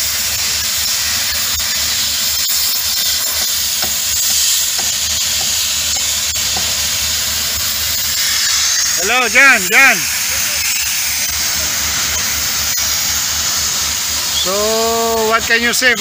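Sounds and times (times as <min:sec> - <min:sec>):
machinery hiss: 0:00.0 - 0:16.0.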